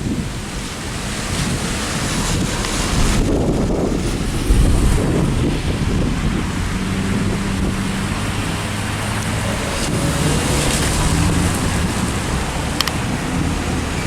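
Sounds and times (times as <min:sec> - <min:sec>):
wind buffeting microphone: 0:00.0 - 0:14.0
car engines driving past: 0:00.9 - 0:14.0.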